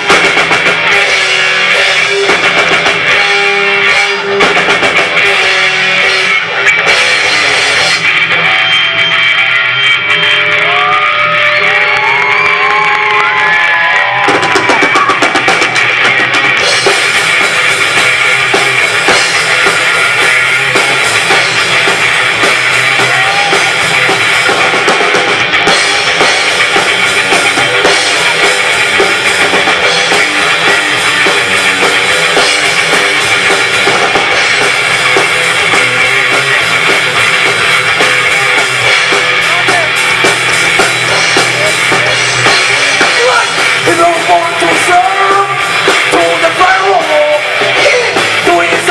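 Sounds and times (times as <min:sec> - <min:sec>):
rock band playing live: 0:00.0 - 0:48.9.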